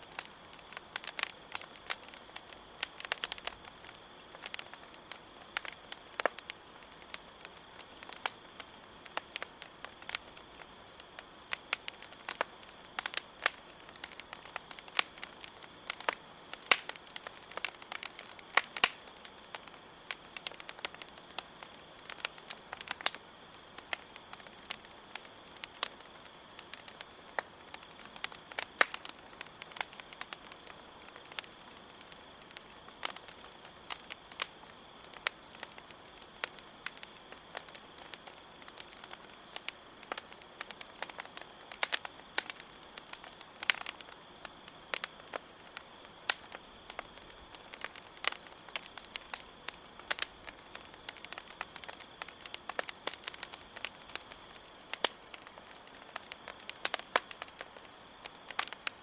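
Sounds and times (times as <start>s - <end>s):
campfire crackling and popping: 0.0s - 59.0s
crickets chirring: 0.0s - 59.0s.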